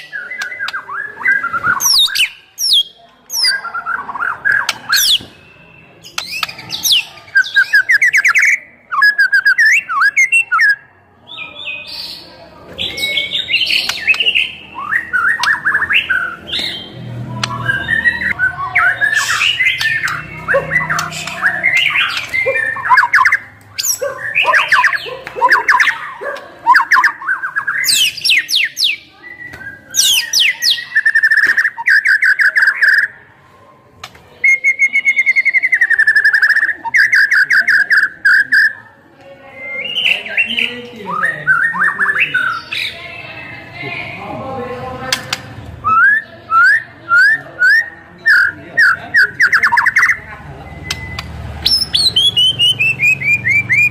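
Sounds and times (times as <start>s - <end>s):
bird singing varied song: 0.0s - 33.3s, 34.0s - 53.9s.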